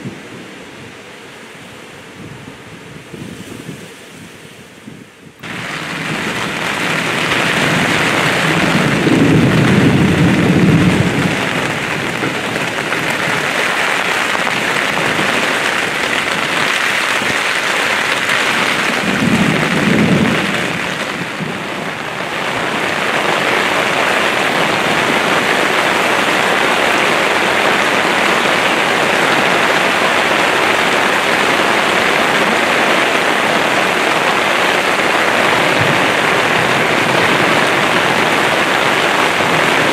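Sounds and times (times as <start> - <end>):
heavy rain pouring: 0.0 - 39.9
thunder rumbling: 4.9 - 39.9.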